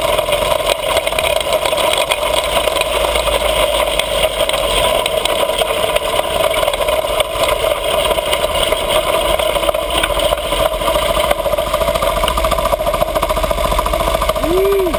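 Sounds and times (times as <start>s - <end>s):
mini bike engine running: 0.0s - 14.9s.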